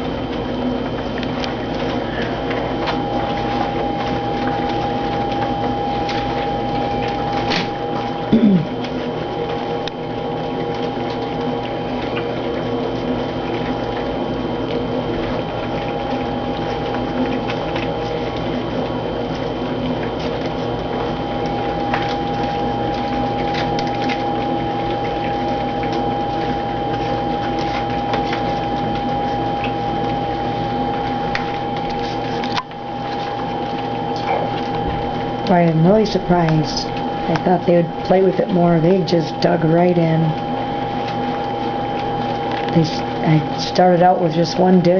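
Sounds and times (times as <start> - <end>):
puppies lapping and chewing food: 0.0 - 44.9
steady hum: 0.0 - 44.9.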